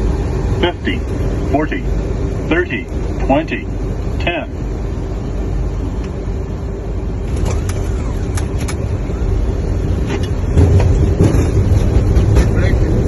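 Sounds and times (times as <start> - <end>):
cockpit low rumble: 0.0 - 13.0.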